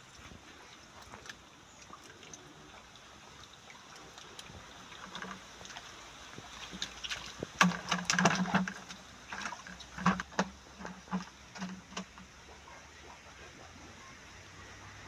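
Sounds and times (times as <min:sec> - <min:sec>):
fish thrashing and splashing water: 0:00.4 - 0:13.6.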